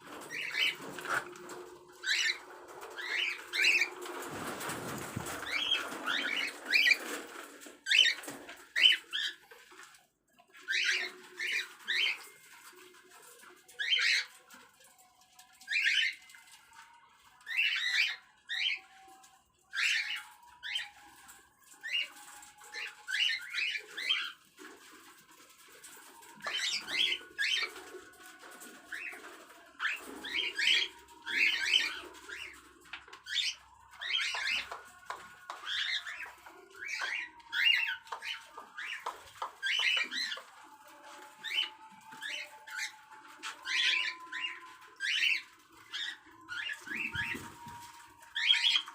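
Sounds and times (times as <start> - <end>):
cockatiels chirping and squawking: 0.1 - 9.7, 10.5 - 14.5, 15.6 - 16.4, 17.4 - 21.1, 21.8 - 24.9, 25.8 - 48.9.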